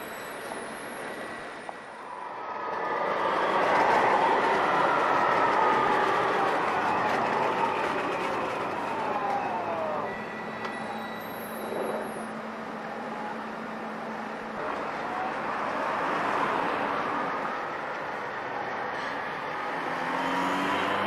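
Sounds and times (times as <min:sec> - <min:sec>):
tram motors whining: 0:00.0 - 0:21.0.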